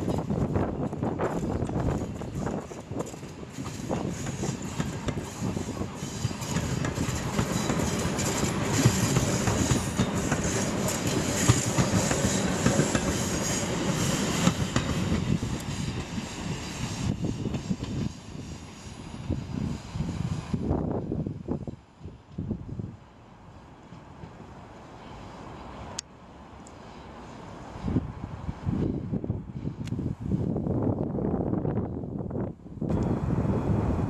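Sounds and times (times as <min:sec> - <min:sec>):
commuter train rumbling past: 0:00.0 - 0:34.0.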